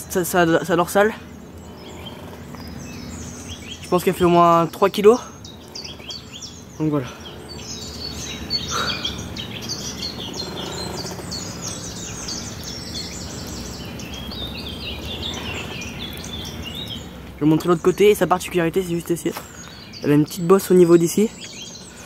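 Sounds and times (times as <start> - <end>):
small birds chirping and trilling: 0.0 - 22.0.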